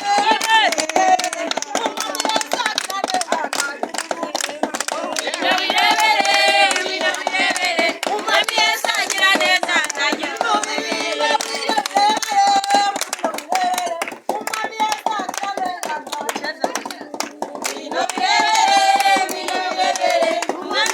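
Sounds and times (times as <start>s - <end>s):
group of voices singing: 0.0s - 20.9s
rhythmic hand clapping: 0.0s - 20.9s.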